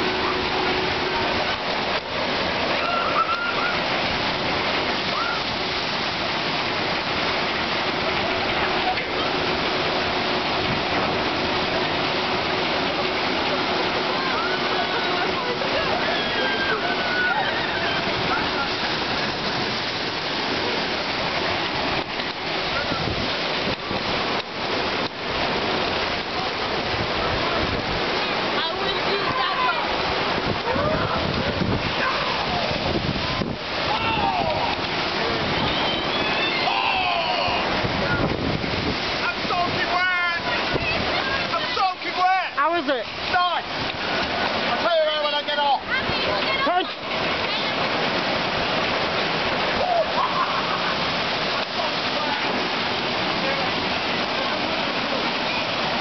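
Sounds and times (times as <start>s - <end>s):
water churning in pool: 0.0s - 56.0s
water rushing down flume: 0.0s - 56.0s.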